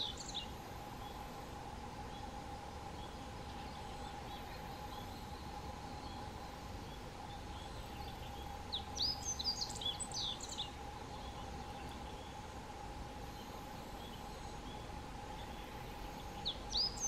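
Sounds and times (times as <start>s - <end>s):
songbird chirps and whistles: 0.0s - 1.2s, 2.9s - 12.5s, 13.3s - 17.0s
faint hum: 0.0s - 17.0s
outdoor background noise: 0.0s - 17.0s.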